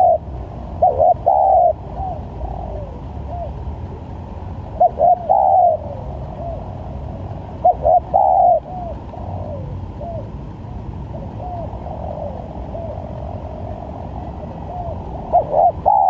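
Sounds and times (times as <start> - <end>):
dove cooing: 0.0 - 10.4, 11.0 - 16.0.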